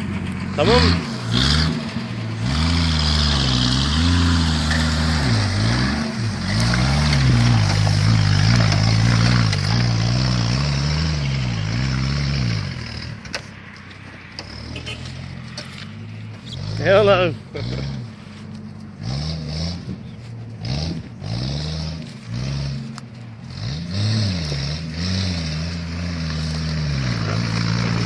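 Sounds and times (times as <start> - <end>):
car engine under load: 0.0 - 28.0.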